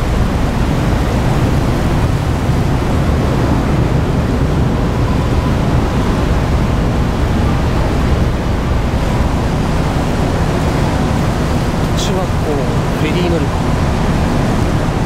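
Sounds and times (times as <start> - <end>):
ferry engines rumbling: 0.0 - 15.0
wind on microphone: 0.0 - 15.0.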